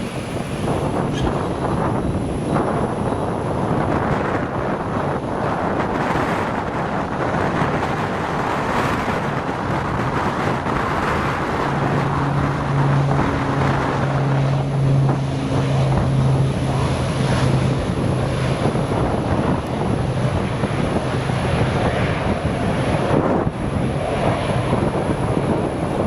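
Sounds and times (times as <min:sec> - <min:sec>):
aircraft engine noise: 0:00.0 - 0:26.0
steady low hum: 0:00.0 - 0:26.0
wind buffeting microphone: 0:00.0 - 0:26.0.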